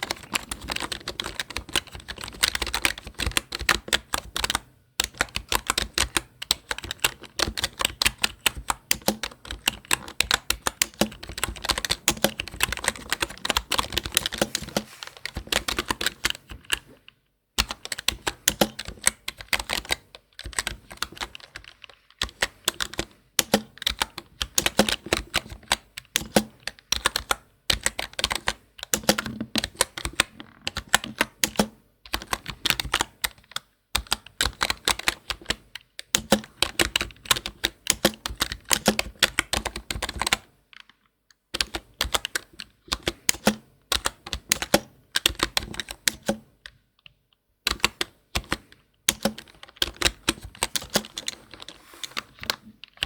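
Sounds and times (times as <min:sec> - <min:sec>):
computer keyboard typing: 0:00.0 - 0:53.0.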